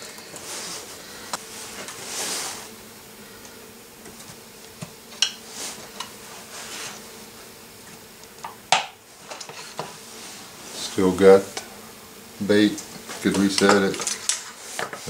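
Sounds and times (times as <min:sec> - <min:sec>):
rustle: 0:00.0 - 0:08.4, 0:09.0 - 0:15.0
faint buzzing hum: 0:00.0 - 0:15.0.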